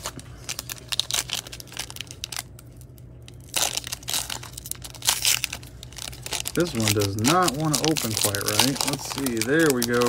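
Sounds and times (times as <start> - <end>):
plastic wrapper crinkling and tearing: 0.0 - 10.0.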